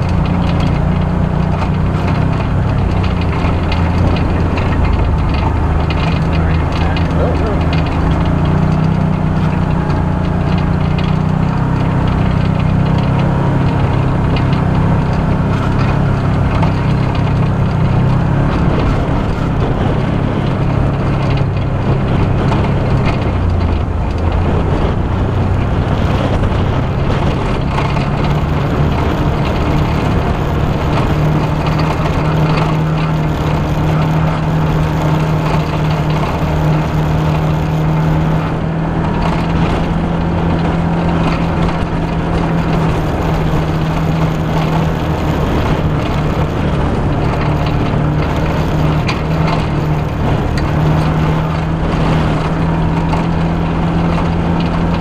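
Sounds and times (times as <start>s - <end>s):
off-road vehicle engine running: 0.0s - 55.0s
steady rush of noise: 0.0s - 55.0s.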